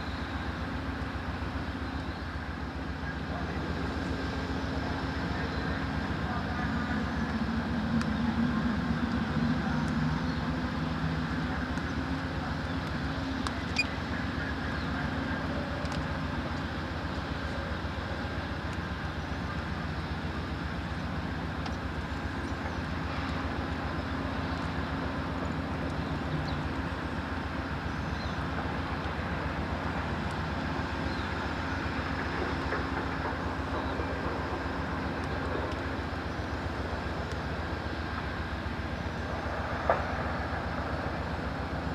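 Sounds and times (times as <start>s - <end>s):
diesel locomotive engine running: 0.0s - 41.9s.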